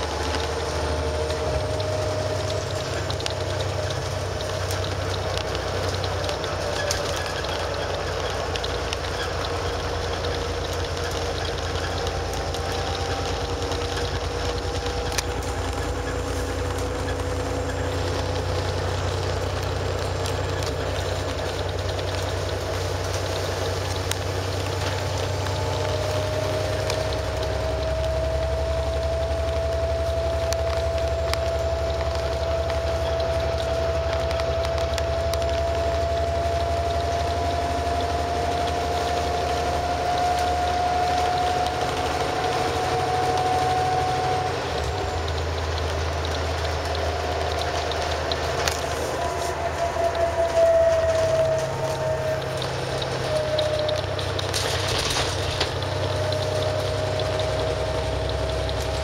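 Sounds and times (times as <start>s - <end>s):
bus engine rumble: 0.0s - 59.0s
rising whine: 0.0s - 59.0s.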